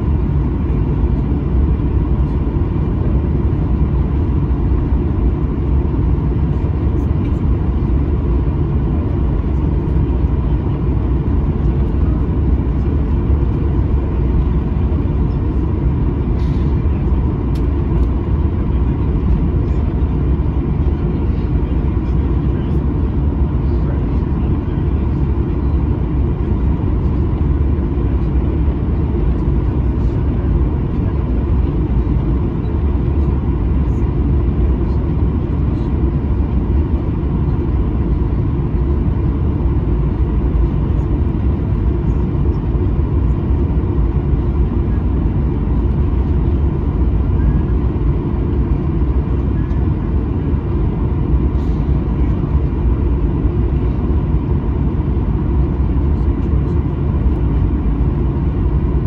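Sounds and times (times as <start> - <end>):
faint engine whine: 0.0 - 59.0
jet engines idling rumble: 0.0 - 59.0.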